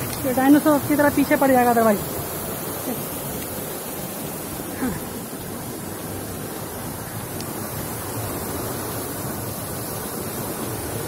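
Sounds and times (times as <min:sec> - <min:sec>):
waterfall water rushing over boulders: 0:00.0 - 0:11.0.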